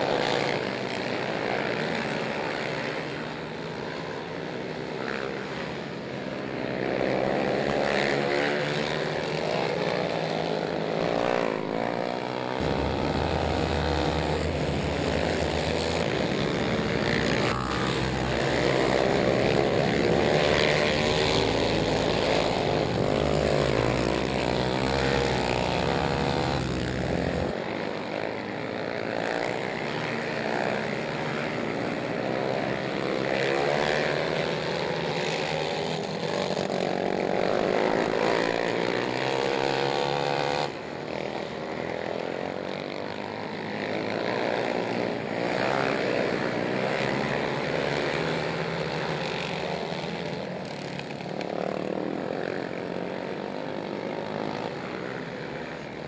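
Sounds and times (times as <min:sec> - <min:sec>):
quad engines revving: 0:00.0 - 0:56.0.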